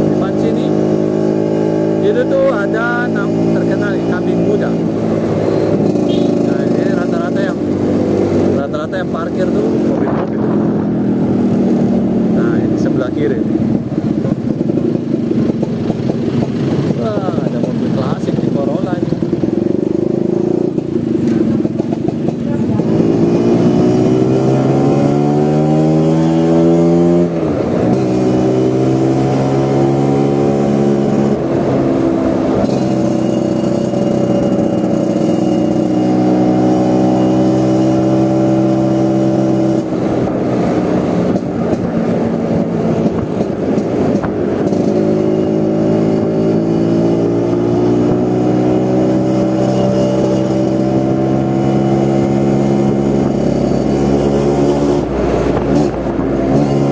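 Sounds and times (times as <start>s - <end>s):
scooter engine accelerating: 0.0s - 56.9s.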